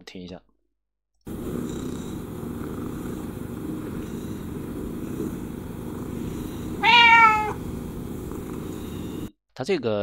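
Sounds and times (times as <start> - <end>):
cat purring: 1.3 - 9.3.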